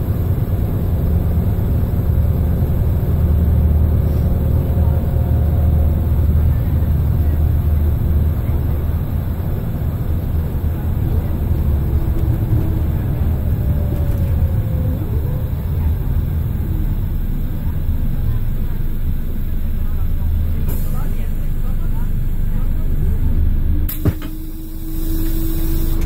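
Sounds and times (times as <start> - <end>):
bus engine drone: 0.0 - 26.0
road noise: 0.0 - 26.0.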